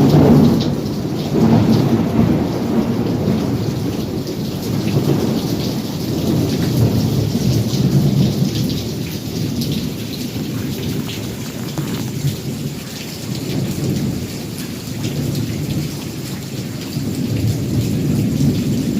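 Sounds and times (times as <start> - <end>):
heavy rain: 0.0 - 18.9.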